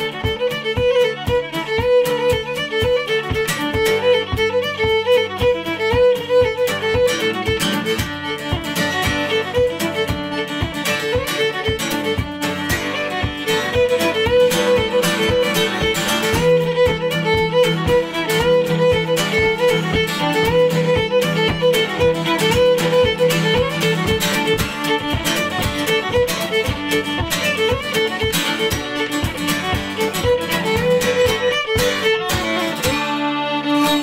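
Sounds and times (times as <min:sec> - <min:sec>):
fiddle playing a fast reel: 0:00.0 - 0:34.0
strummed acoustic guitar: 0:00.0 - 0:34.0.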